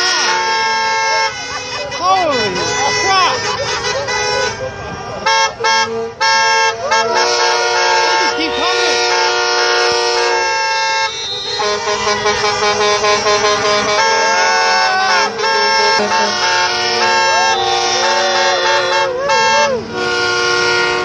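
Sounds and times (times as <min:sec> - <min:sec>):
truck air horns honking: 0:00.0 - 0:21.0.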